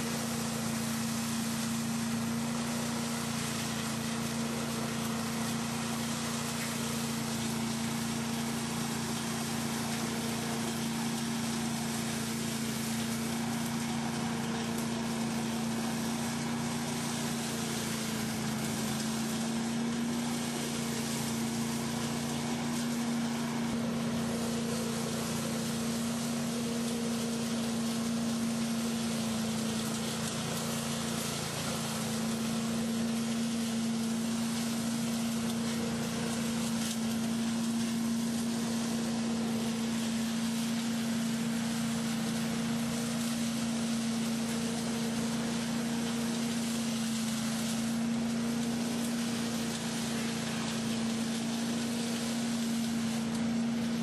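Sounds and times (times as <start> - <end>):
leaf vacuum engine hum: 0.0 - 54.0
rush of air through hose: 0.0 - 54.0.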